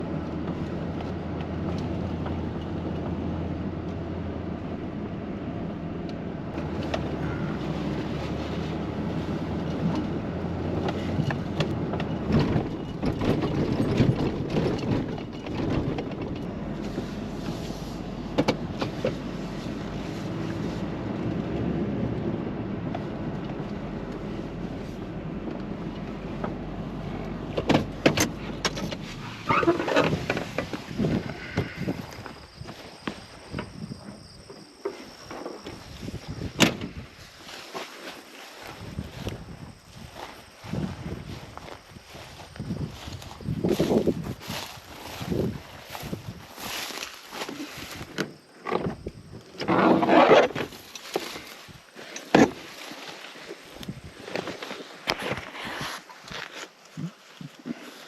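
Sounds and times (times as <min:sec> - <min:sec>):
vehicle engine hum: 0:00.0 - 0:58.0.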